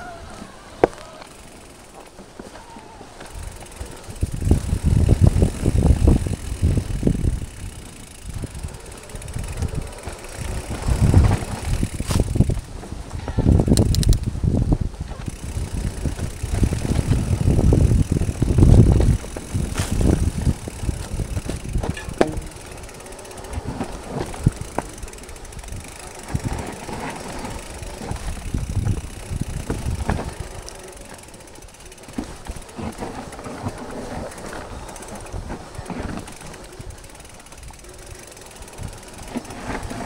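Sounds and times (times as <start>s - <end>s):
bike knocking and rattling: 0.0s - 40.0s
bike tyres rumbling: 0.0s - 40.0s.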